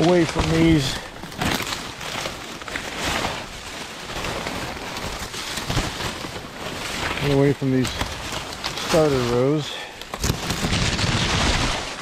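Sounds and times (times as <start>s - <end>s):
dry corn leaves rustling and crackling: 0.0s - 12.0s.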